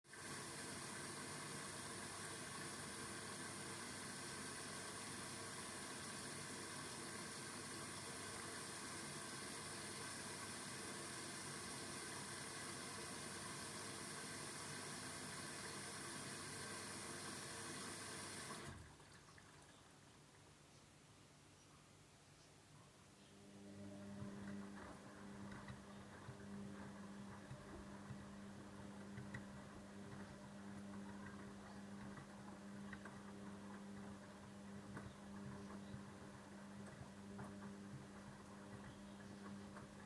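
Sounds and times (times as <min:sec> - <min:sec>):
water filling washing machine drum: 0:00.1 - 0:19.2, 0:24.1 - 0:40.0.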